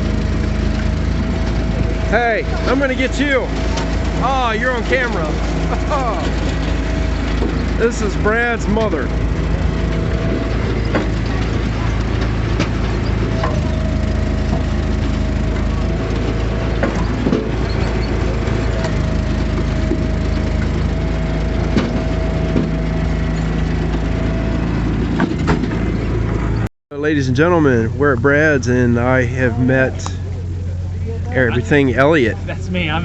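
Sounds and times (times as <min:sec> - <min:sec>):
log splitter engine running: 0:00.0 - 0:33.0.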